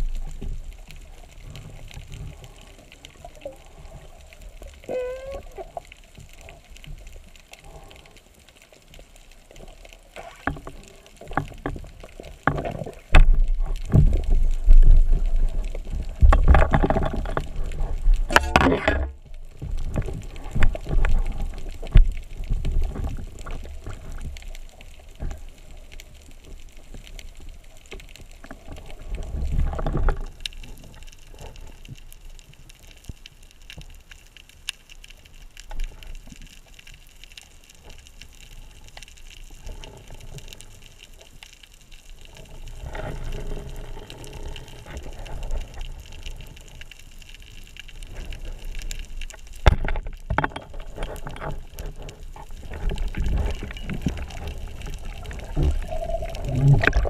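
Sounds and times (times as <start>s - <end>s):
underwater rushing water: 0.0s - 57.0s.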